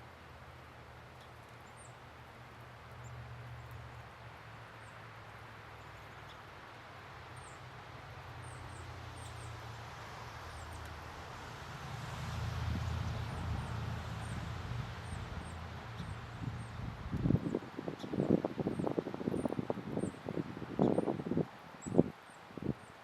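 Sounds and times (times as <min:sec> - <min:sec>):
songbirds chipping and chirping: 0:00.6 - 0:11.0, 0:13.1 - 0:23.0.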